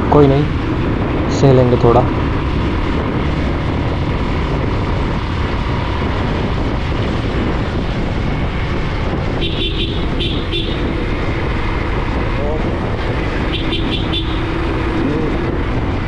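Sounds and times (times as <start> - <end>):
motorcycle riding noise: 0.0 - 16.0
wind rushing over microphone: 0.0 - 16.0.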